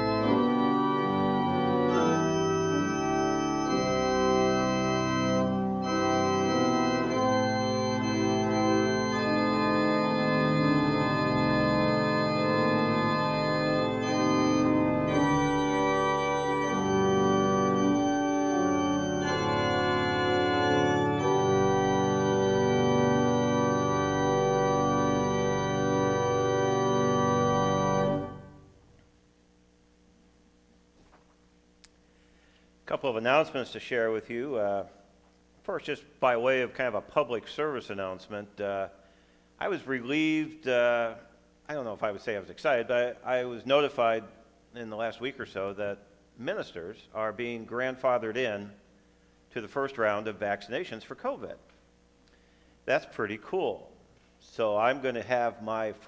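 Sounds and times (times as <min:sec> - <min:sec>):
church organ playing chords: 0:00.0 - 0:28.9, 0:32.9 - 0:35.0, 0:35.7 - 0:51.5, 0:54.4 - 0:56.0.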